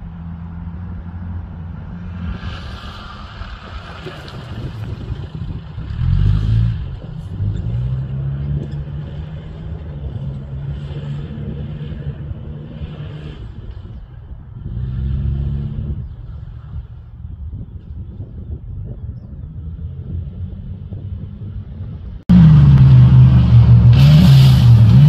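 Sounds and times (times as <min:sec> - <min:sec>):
off-road vehicle engine revving: 0:00.0 - 0:14.0, 0:14.6 - 0:16.8, 0:19.4 - 0:25.0.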